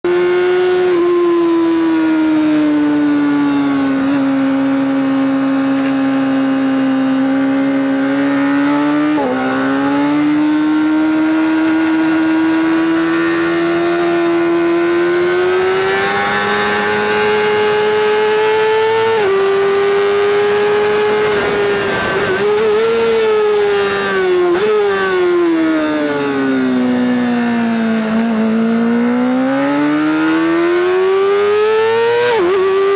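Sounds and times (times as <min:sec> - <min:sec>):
motorcycle engine at high revs: 0:00.0 - 0:32.9.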